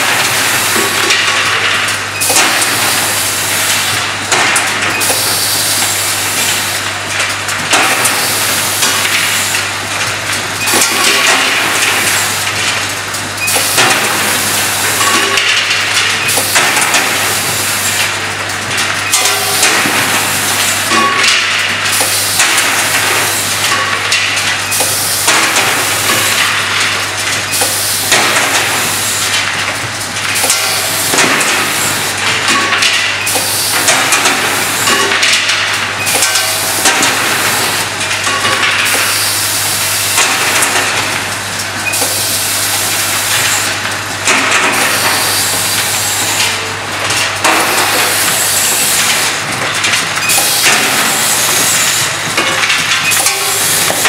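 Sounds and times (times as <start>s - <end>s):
clatter of parts: 0.0s - 54.0s.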